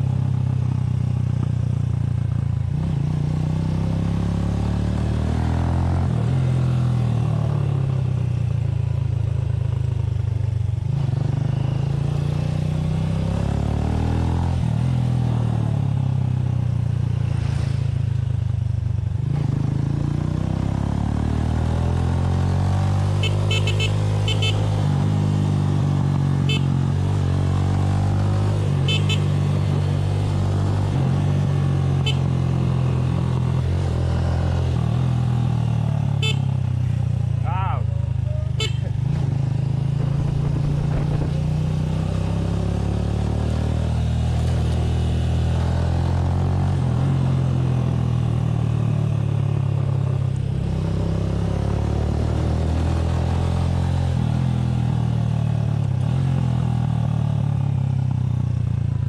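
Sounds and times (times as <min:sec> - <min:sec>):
motorcycle engine accelerating: 0:10.8 - 0:59.0.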